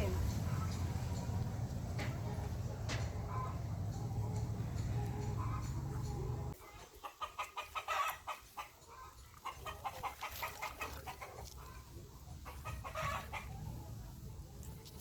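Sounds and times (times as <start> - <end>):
hens clucking: 0.0 - 14.8.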